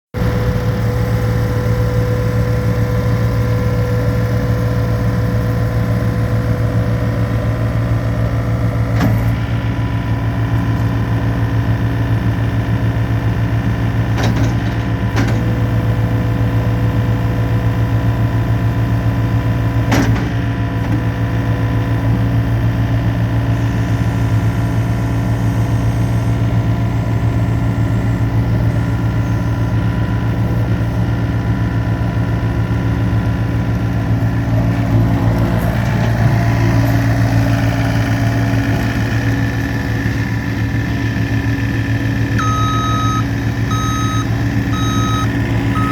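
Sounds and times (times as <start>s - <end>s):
loader engine running: 0.2s - 45.9s.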